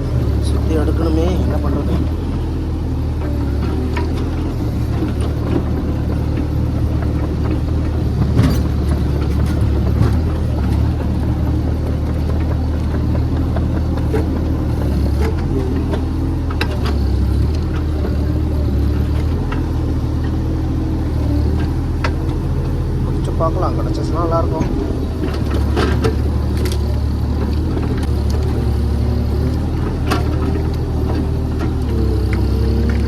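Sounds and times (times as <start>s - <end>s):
excavator diesel engine under load: 0.0s - 33.0s.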